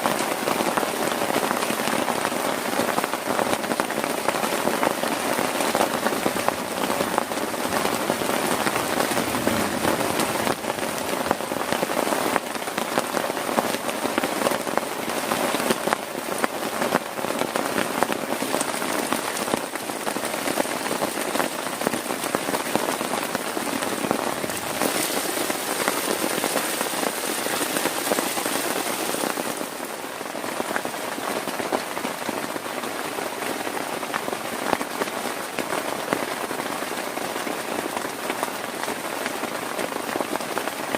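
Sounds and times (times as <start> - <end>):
heavy rain on a plastic tarp: 0.0 - 40.9.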